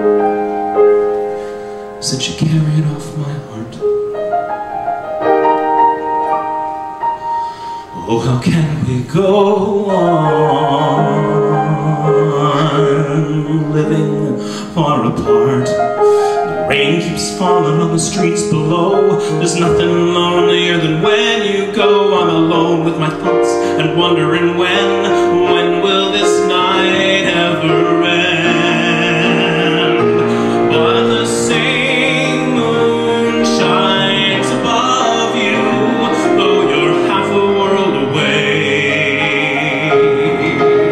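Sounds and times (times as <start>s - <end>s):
piano chords: 0.0s - 40.9s
man singing a slow ballad: 7.8s - 40.9s.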